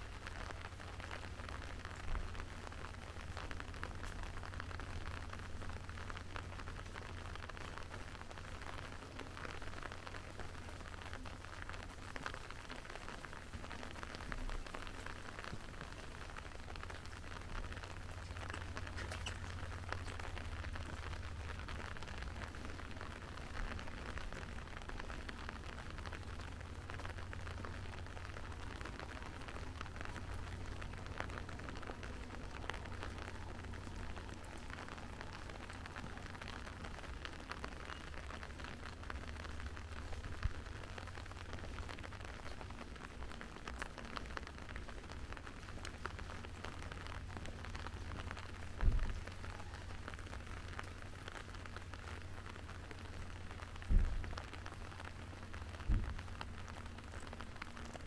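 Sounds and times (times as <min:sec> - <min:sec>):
rain pattering on hard surfaces: 0:00.0 - 0:58.0.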